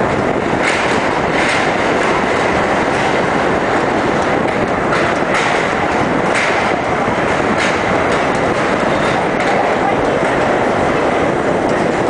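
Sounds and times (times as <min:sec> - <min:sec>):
subway train wheels rumbling: 0:00.0 - 0:12.0
wheels clacking over rail joints: 0:00.0 - 0:12.0.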